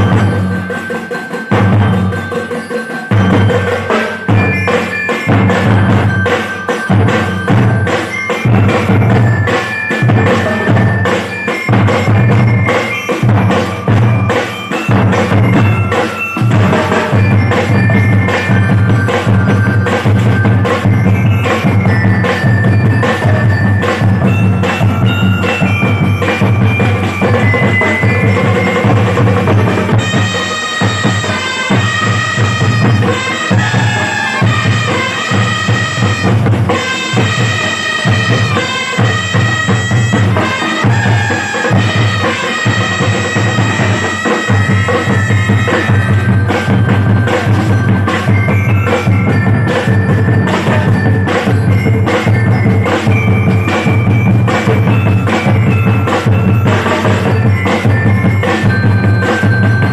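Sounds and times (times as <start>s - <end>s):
drums beating: 0.0s - 59.9s
pitched melody line: 0.0s - 59.9s.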